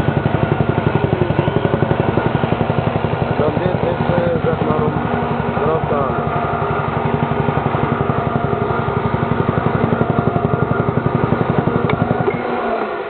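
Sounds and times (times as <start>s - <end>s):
engine running with low pulsing: 0.0s - 13.0s.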